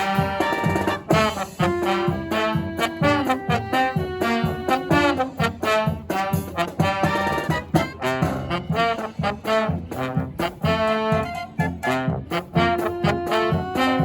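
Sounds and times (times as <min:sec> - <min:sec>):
drum strokes: 0:00.0 - 0:14.0
trombones and trumpets melody: 0:00.0 - 0:14.0.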